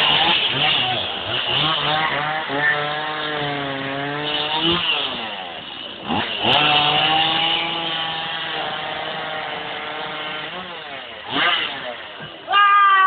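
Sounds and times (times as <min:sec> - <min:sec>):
small engine revving: 0:00.0 - 0:12.5.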